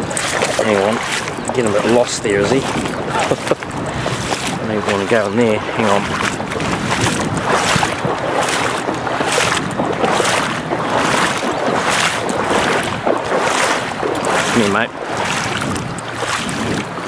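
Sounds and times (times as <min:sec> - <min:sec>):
boots wading and splashing: 0:00.0 - 0:17.0
stream rushing: 0:00.0 - 0:17.0.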